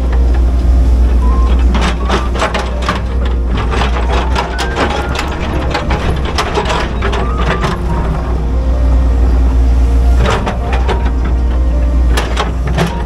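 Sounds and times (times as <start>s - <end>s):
diesel engine running: 0.0s - 13.0s
hydraulic whines: 0.0s - 13.0s.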